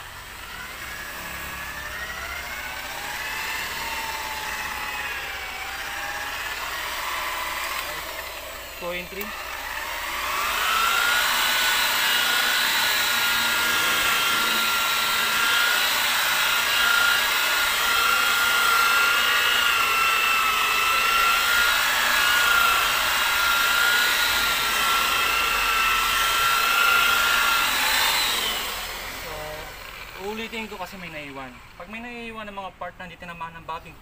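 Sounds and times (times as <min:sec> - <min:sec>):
electric polisher motor whine: 0:00.0 - 0:31.8.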